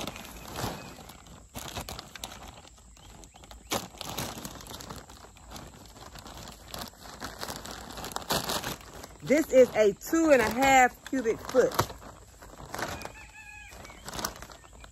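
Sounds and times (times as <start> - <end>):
plastic bag crinkling and rustling: 0.0 - 14.9.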